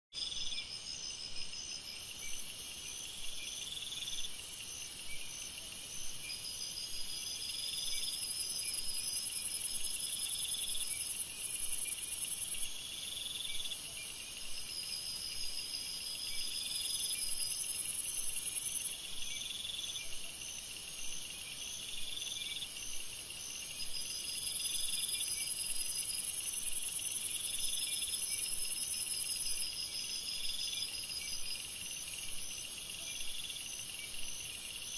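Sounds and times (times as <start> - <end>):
insects chirping: 0.2 - 34.9
insects pulsing trills: 0.2 - 34.9.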